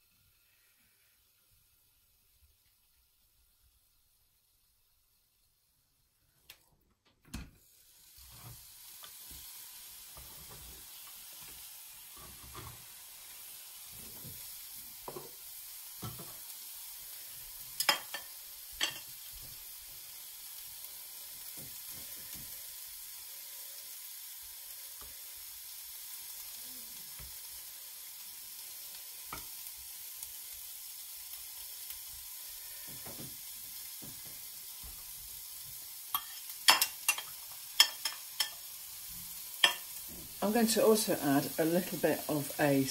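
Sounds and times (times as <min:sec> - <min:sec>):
vegetables sizzling in a pan: 0:00.0 - 0:06.6, 0:07.4 - 0:42.9.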